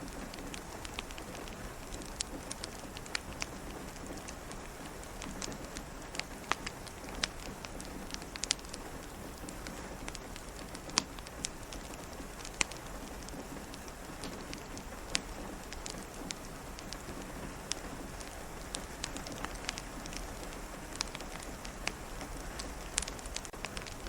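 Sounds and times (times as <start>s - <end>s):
fireplace pops and crackles: 0.0s - 24.0s
steady rain: 0.0s - 24.0s.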